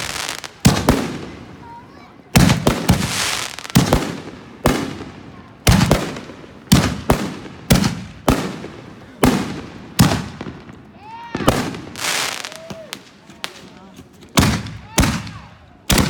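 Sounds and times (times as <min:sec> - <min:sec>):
fireworks bangs: 0:00.0 - 0:16.0
fireworks crackle: 0:00.0 - 0:16.0.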